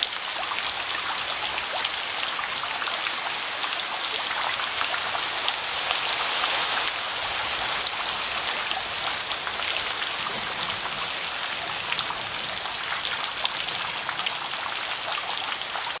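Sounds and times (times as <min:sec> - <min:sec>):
rain on leaves and water: 0:00.0 - 0:16.0.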